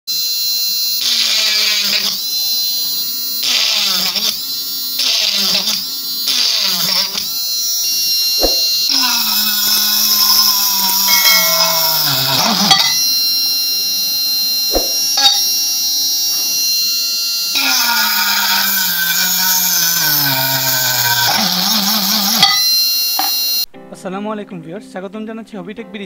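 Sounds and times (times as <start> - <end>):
drill bit drilling into metal: 0.1 - 23.7
mini drill motor whining: 0.1 - 23.7.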